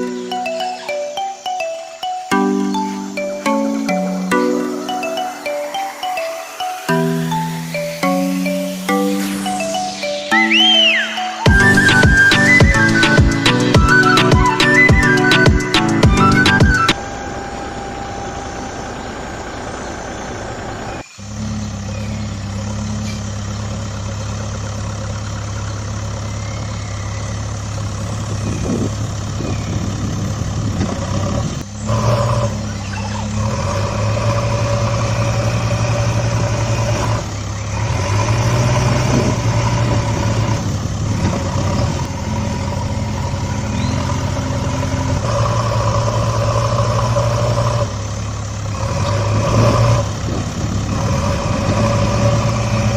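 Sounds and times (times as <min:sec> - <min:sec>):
higher engine note: 0:00.0 - 0:52.9
truck engine idling: 0:00.0 - 0:52.9.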